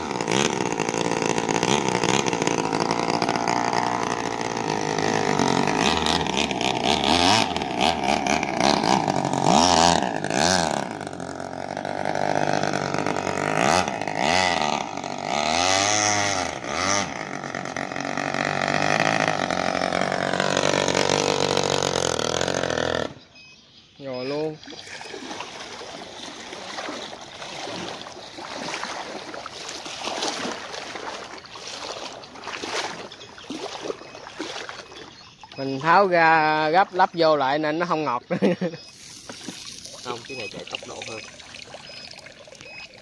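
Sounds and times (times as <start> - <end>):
small two-stroke engine buzzing: 0.0 - 43.0.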